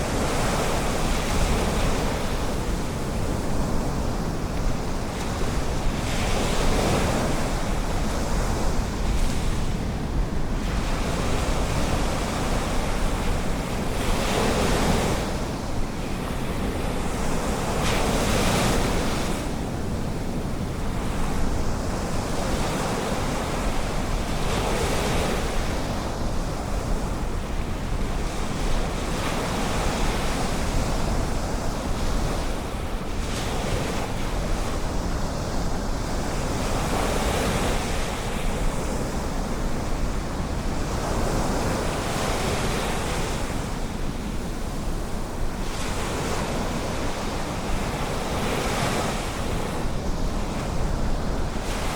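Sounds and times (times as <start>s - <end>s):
wind on microphone: 0.0s - 51.9s.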